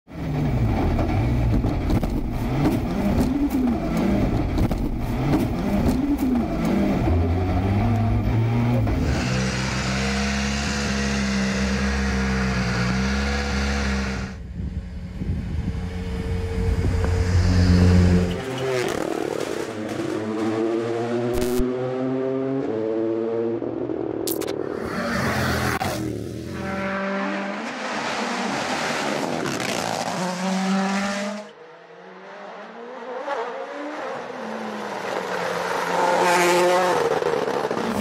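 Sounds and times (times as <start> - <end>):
rally car engines revving: 0.1 - 14.5, 15.2 - 38.0.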